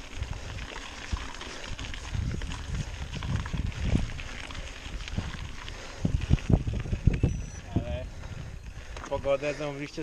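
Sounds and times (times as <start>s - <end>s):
bike knocking and rattling: 0.0s - 7.4s, 8.7s - 9.4s
bike tyres on dirt and stones: 0.0s - 10.0s.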